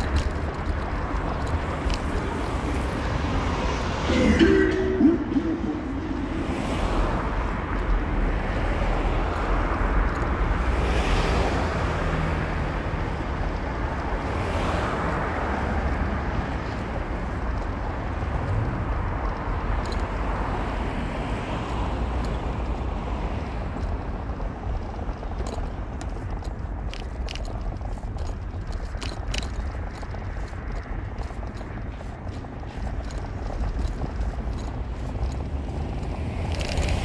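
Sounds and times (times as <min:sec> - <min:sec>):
car tyre and engine rumble: 0:00.0 - 0:37.0.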